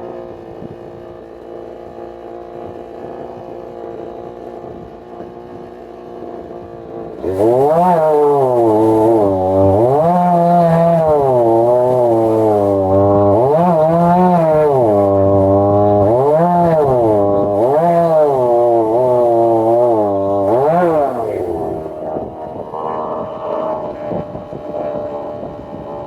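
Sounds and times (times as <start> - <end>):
chainsaw cutting through log: 0.0 - 26.0.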